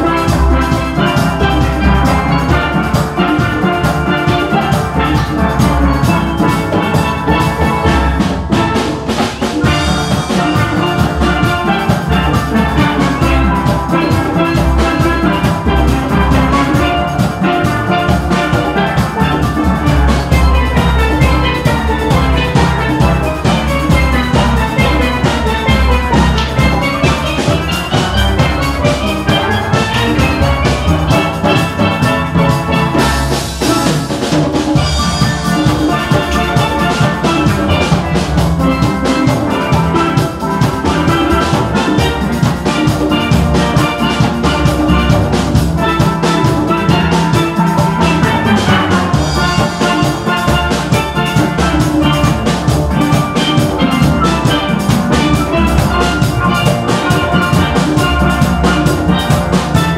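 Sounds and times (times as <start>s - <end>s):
steady drum beat: 0.0s - 59.9s
steelpans playing rhythmic runs: 0.0s - 59.9s.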